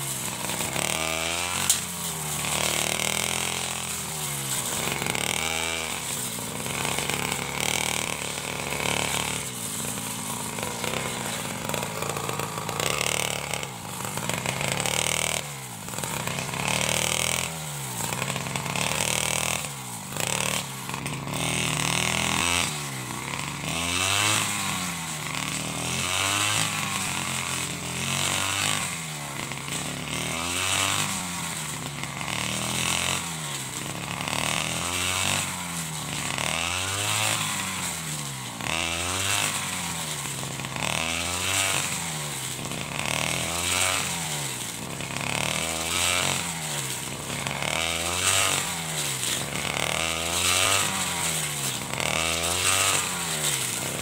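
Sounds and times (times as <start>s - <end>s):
brush cutter engine revving: 0.0s - 54.0s.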